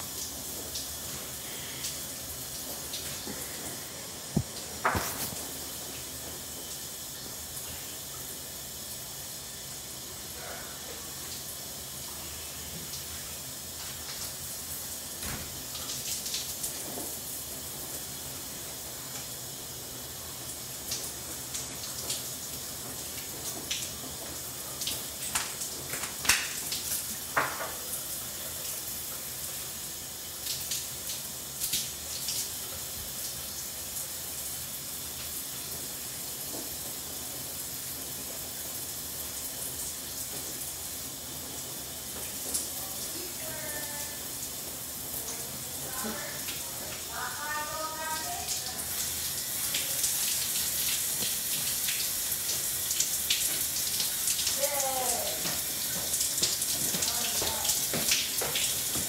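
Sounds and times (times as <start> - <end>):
shower water spray hissing: 0.0 - 59.0.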